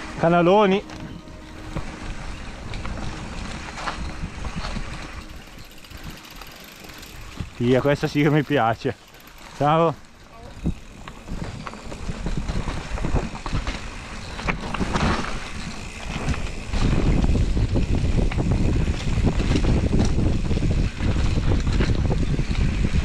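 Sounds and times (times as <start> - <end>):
wind on microphone: 0.0 - 7.9, 10.5 - 23.0
bike rattling over bumps: 0.0 - 23.0.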